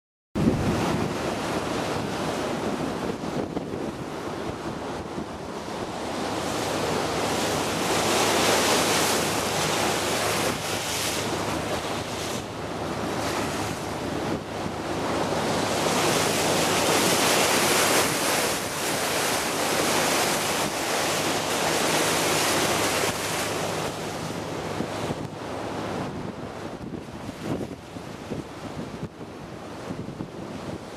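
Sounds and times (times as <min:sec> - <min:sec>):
water splashing along boat bow: 0:00.4 - 0:30.9
wind buffeting microphone: 0:00.4 - 0:30.9.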